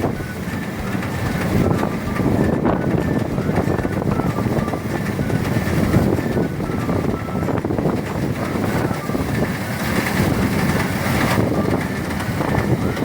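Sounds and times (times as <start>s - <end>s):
rice thresher rumbling: 0.0s - 13.0s.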